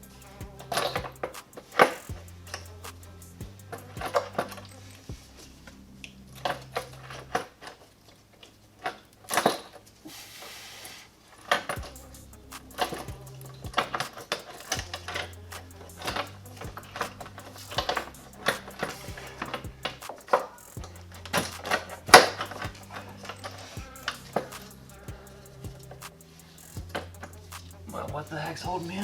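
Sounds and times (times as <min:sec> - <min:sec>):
background music with bass line: 0:00.0 - 0:07.4, 0:11.7 - 0:29.0.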